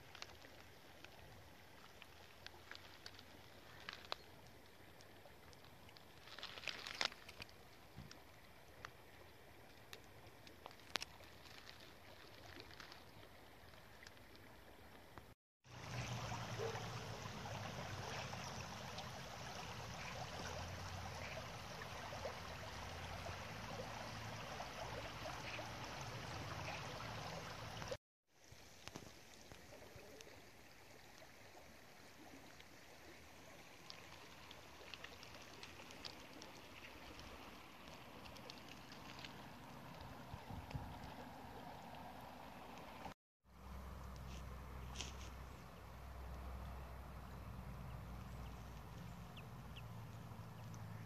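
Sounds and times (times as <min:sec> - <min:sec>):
water lapping over stones: 0:00.0 - 0:43.2
rippling river current: 0:00.0 - 0:51.0.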